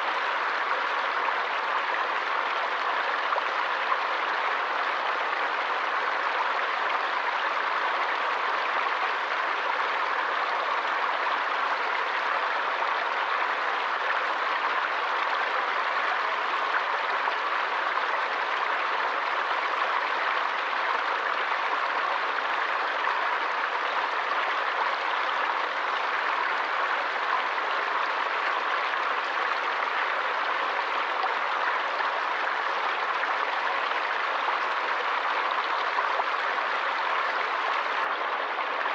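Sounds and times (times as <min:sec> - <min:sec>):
stream of water running: 0:00.0 - 0:38.9.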